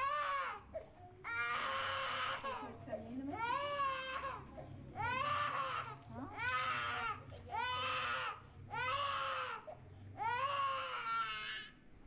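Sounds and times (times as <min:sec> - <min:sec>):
baby crying: 0:00.0 - 0:11.8.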